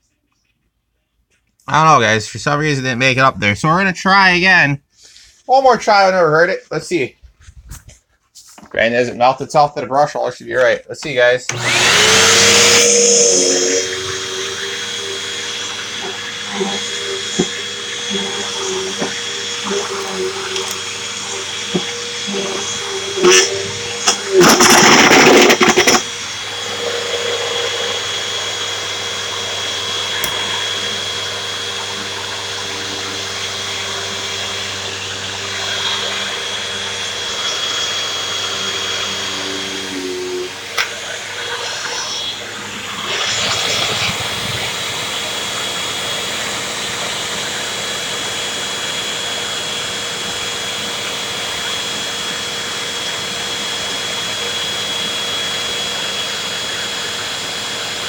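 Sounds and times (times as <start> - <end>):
vacuum cleaner whine: 11.0 - 58.0.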